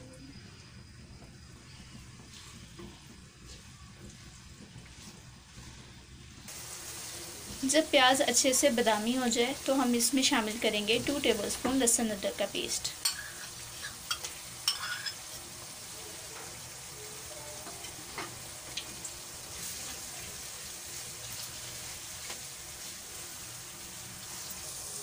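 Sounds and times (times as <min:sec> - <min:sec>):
onions sizzling in hot oil: 0:00.0 - 0:25.0.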